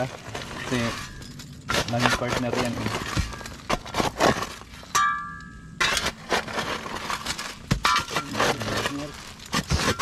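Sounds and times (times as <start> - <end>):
shovel digging stony soil: 0.0 - 10.0.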